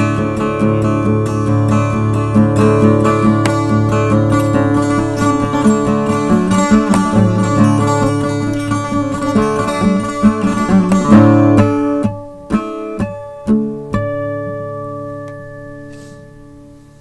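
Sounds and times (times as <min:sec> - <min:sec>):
acoustic guitar strumming: 0:00.0 - 0:17.0
plucked guitar notes: 0:00.0 - 0:17.0.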